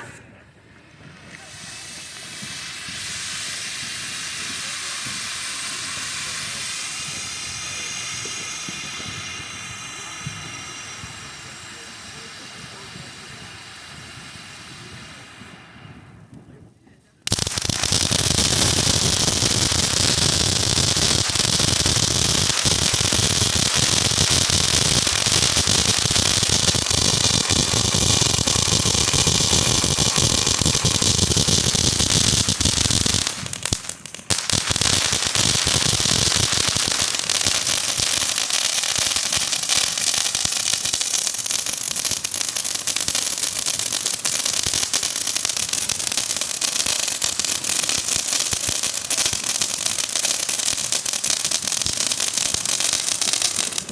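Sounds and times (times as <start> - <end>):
firework crackling and hissing: 0.0 - 53.9.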